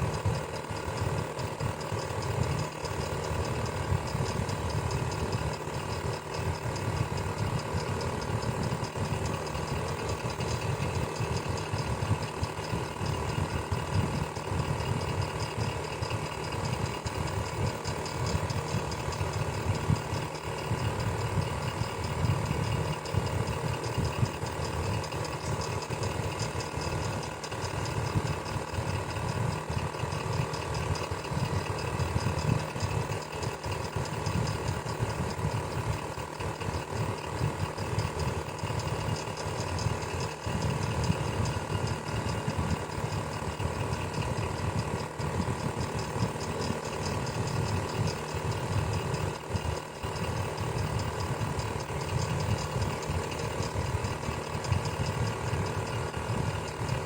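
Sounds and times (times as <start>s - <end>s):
electric fan motor hum: 0.0s - 57.0s.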